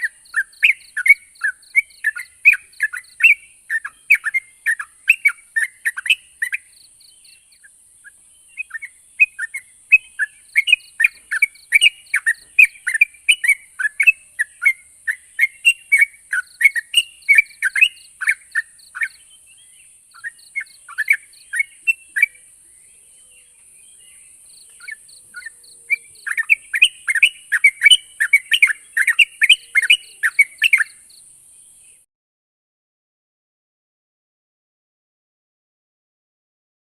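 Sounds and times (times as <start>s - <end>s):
bird chattering song: 0.0s - 32.1s.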